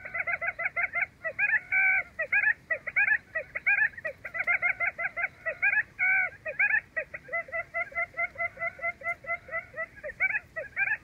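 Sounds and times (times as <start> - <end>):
quail calling: 0.0 - 11.0.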